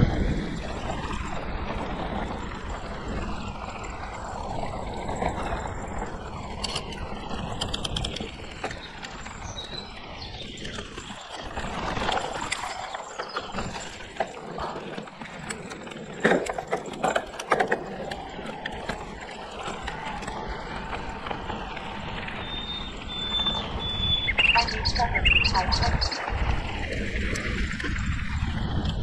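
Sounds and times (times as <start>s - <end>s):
bike rattling over bumps: 0.0s - 29.0s
wind on microphone: 0.0s - 29.0s.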